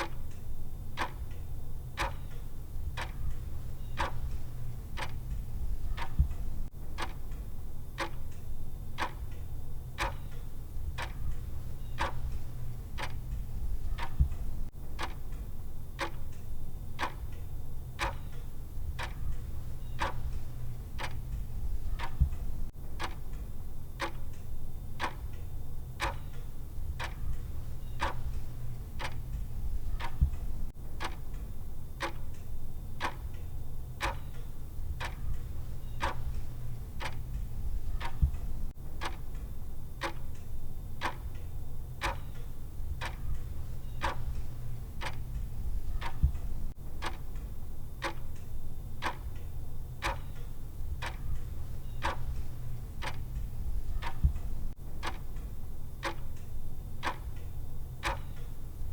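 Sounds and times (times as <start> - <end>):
steady low hum: 0.0 - 58.9
timer ticking: 0.0 - 58.9.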